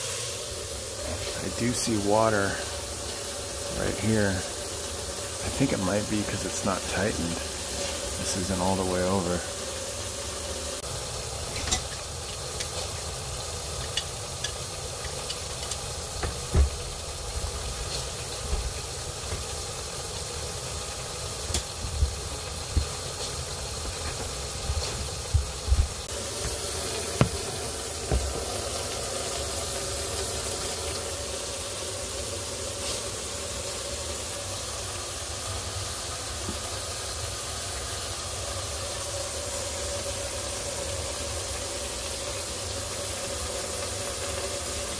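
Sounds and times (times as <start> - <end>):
water running into sink drain: 0.0 - 44.9.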